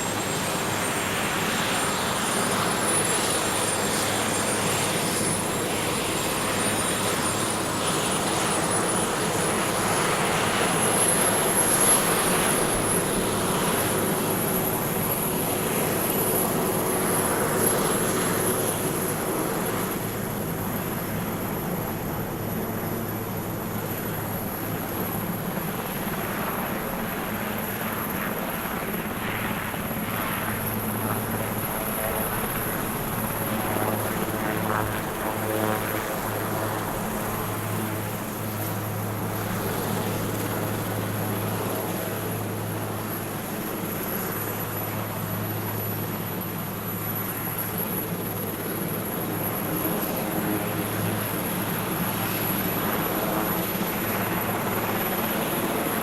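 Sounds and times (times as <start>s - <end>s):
helicopter drone: 0.0s - 56.0s.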